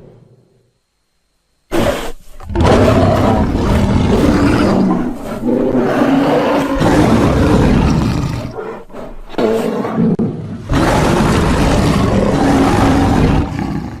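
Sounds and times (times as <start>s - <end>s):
large animal roaring: 1.8s - 14.0s.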